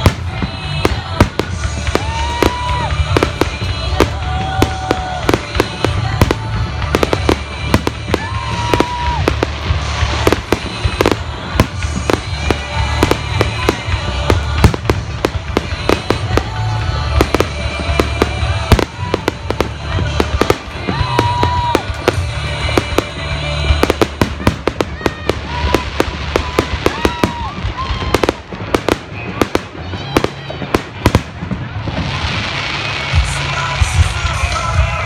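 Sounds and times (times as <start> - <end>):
fireworks bursting: 0.0 - 35.0
music playing: 0.0 - 35.0.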